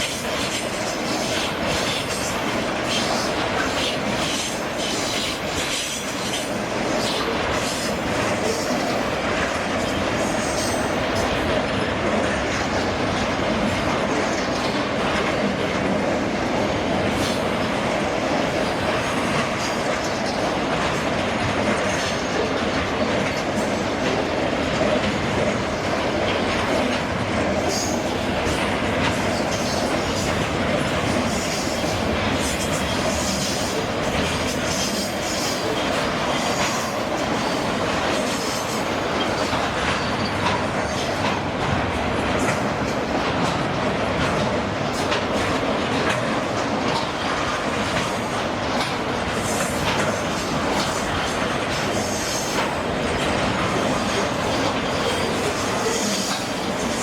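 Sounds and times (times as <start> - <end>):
train wagons rumbling on rails: 0.0 - 57.0.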